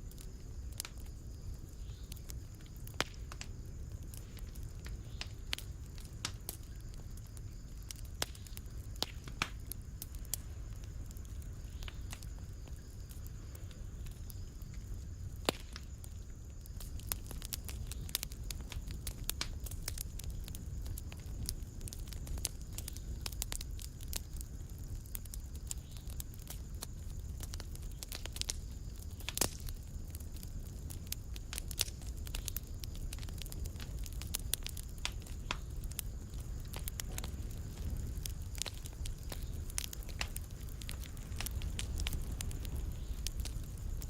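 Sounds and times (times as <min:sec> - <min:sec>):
fire low rumble: 0:00.0 - 0:44.0
wood fire crackling and popping: 0:00.0 - 0:44.0.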